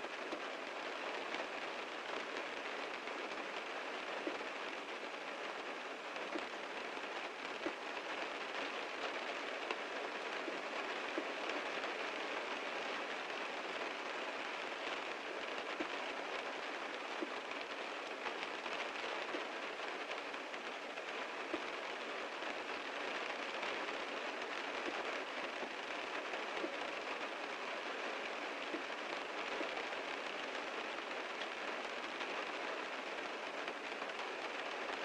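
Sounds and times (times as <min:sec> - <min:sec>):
heavy rain on a car: 0:00.0 - 0:35.0.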